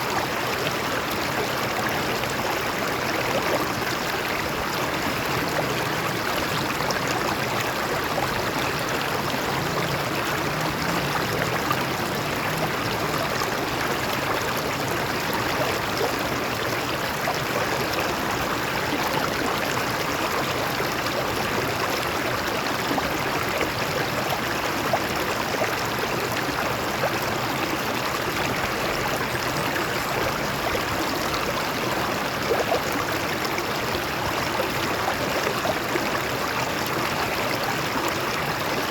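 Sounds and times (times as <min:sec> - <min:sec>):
stream water flowing over rocks: 0:00.0 - 0:38.9.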